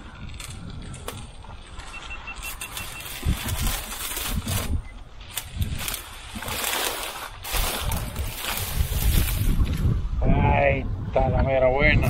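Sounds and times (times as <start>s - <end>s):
grass and reeds rustling: 0.0s - 10.2s
wind buffeting microphone: 0.0s - 12.0s.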